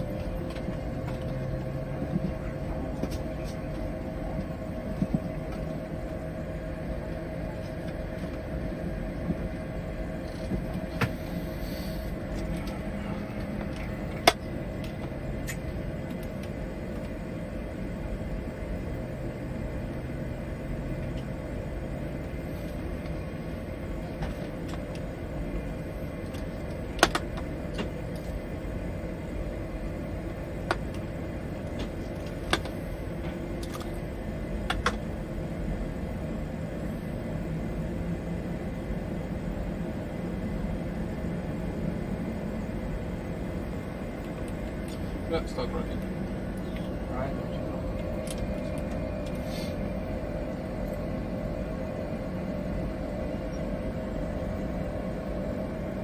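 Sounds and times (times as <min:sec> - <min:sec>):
flight deck hum and rumble: 0:00.0 - 0:56.0.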